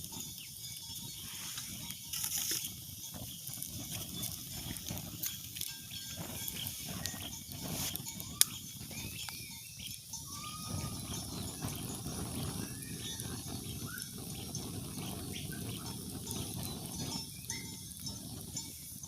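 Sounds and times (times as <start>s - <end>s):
bird chirping: 0.1s - 18.8s.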